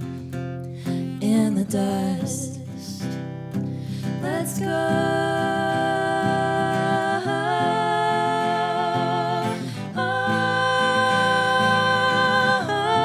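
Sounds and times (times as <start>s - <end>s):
acoustic guitar strumming: 0.0s - 2.2s, 2.9s - 13.0s.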